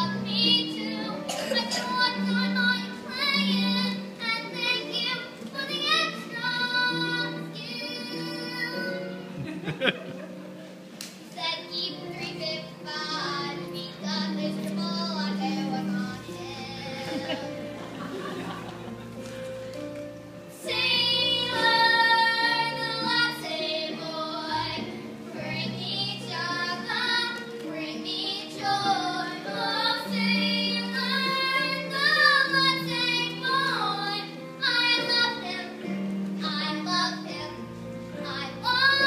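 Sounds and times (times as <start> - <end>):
girls singing a duet: 0.0 - 9.4, 11.0 - 39.0
instrumental accompaniment: 0.0 - 39.0.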